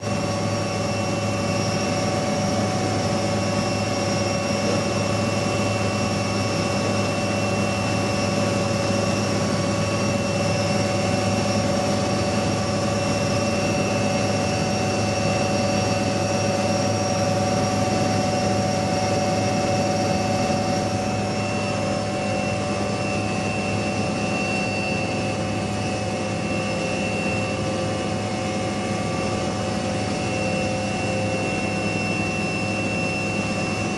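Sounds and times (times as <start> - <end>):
helicopter turbine engine running: 0.0 - 33.9.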